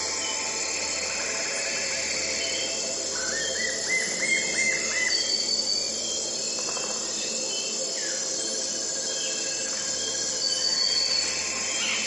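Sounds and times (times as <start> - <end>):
bird singing: 0.0 - 12.0
high insect trill: 0.0 - 12.0.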